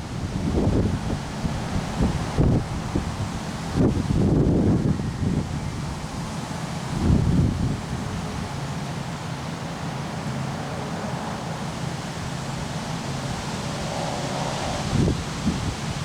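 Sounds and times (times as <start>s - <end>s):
wind buffeting microphone: 0.0s - 16.0s
wind rustling leaves: 0.0s - 16.0s.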